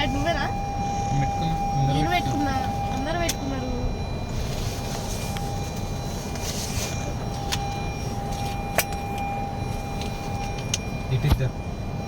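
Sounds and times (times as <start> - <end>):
engine and road rumble: 0.0 - 12.0
thin steady whine: 0.0 - 12.0.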